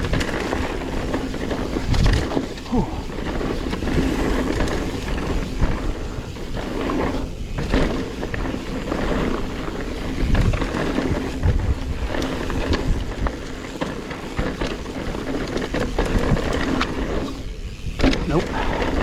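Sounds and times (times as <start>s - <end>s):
bike knocks and rattles: 0.0s - 19.0s
tyres rolling on trail: 0.0s - 19.0s.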